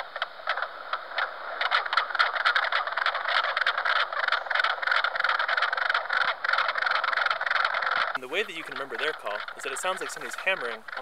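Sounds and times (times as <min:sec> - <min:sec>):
frogs calling with knocking clucks: 0:00.0 - 0:11.0.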